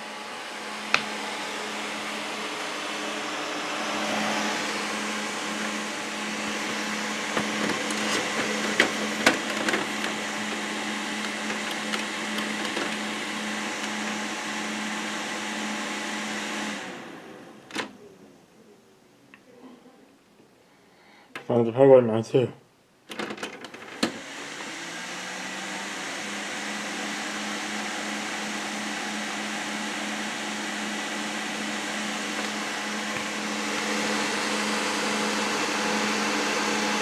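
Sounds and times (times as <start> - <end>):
computer fans whirring: 0.0 - 18.0, 23.6 - 37.0.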